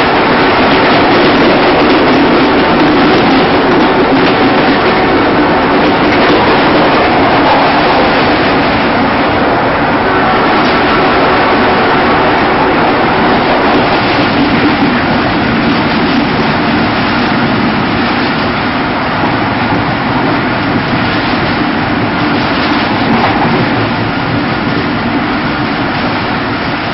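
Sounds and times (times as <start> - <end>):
train wind rush: 0.0 - 26.9
wheels on rails: 0.0 - 26.9.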